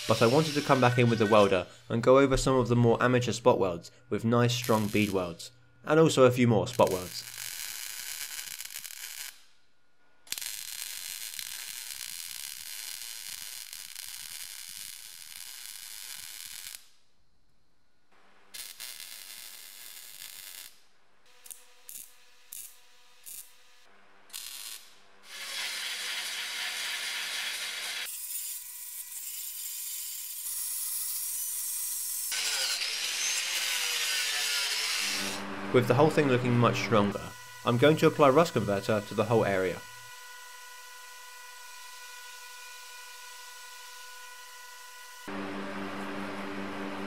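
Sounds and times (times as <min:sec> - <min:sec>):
welder arcing on sheet steel: 0:00.0 - 0:01.6, 0:04.5 - 0:05.3, 0:06.7 - 0:09.6, 0:10.2 - 0:17.0, 0:18.5 - 0:47.0.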